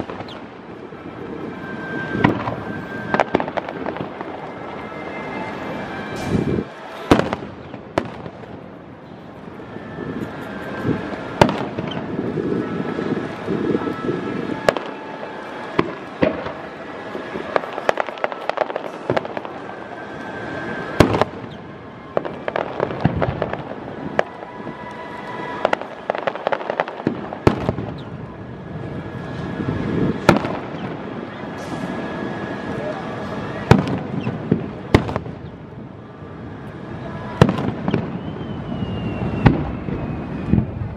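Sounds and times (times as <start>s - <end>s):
firework crackling: 0.0s - 40.9s.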